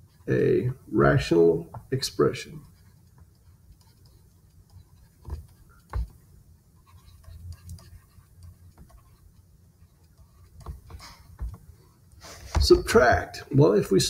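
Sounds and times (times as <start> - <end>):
stylus scratching and tapping: 0.0 - 13.3.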